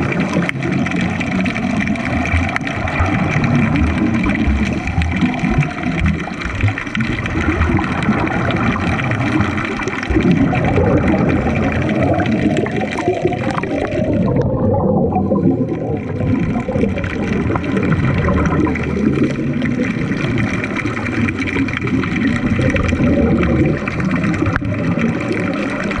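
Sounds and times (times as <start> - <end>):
underwater bubbling: 0.0 - 26.0
underwater water noise: 0.0 - 26.0.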